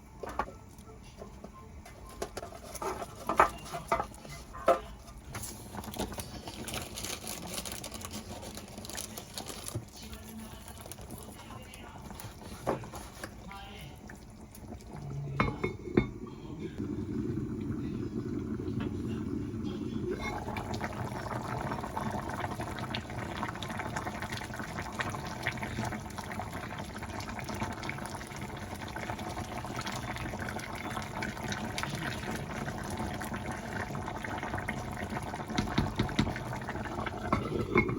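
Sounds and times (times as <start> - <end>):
liquid running or bubbling: 2.0 - 37.9.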